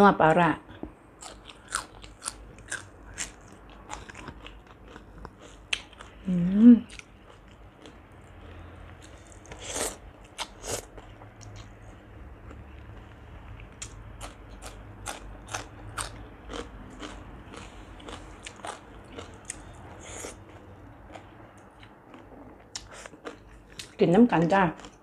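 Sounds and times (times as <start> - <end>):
crunchy chewing: 1.2 - 11.8, 12.4 - 24.0.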